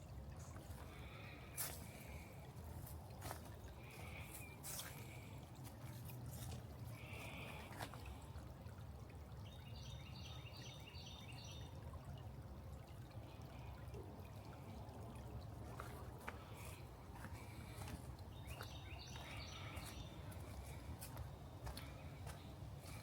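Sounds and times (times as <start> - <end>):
creek water trickling over rocks: 0.0 - 23.0.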